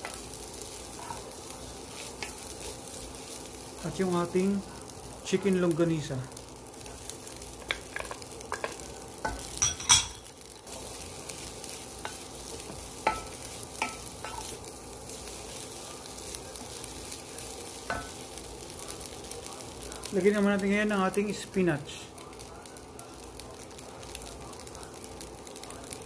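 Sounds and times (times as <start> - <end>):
rice sizzling in a pot: 0.0 - 26.0.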